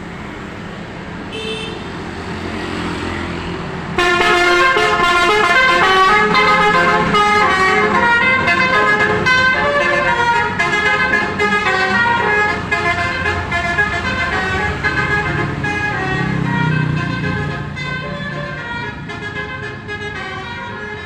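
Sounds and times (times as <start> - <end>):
multi-tone musical bus horn: 1.3 - 2.0, 4.0 - 21.0.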